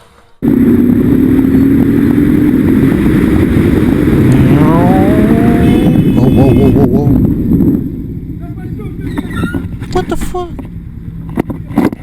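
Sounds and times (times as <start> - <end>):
road noise: 0.0 - 12.0
motorcycle engine accelerating: 0.4 - 12.0.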